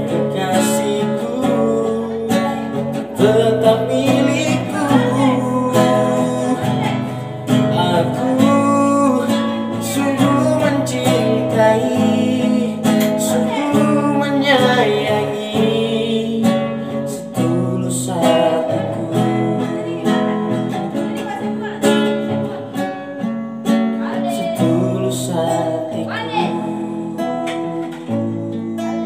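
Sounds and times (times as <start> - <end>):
man singing slow melody: 0.0 - 22.7, 24.0 - 29.0
acoustic guitar: 0.0 - 29.0.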